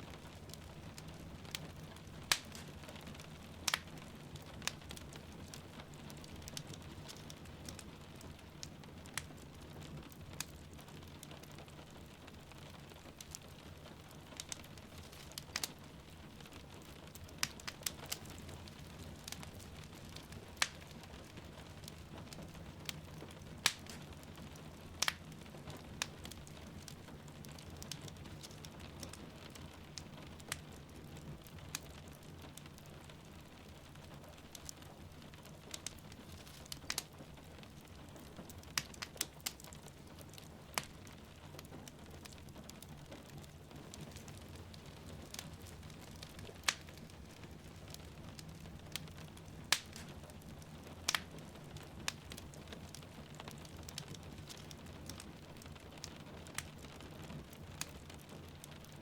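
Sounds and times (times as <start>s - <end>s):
wood fire crackling: 0.0s - 59.0s
sharp pops of fire: 0.1s - 11.6s, 13.2s - 32.8s, 34.3s - 58.3s.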